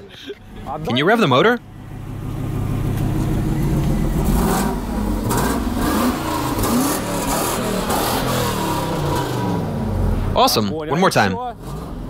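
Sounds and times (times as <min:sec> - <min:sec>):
engine revving: 0:00.4 - 0:12.0.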